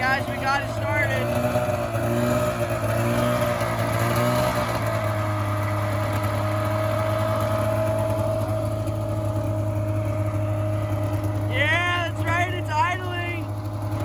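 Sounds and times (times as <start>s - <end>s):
snowmobile engine idling: 0.0s - 14.0s.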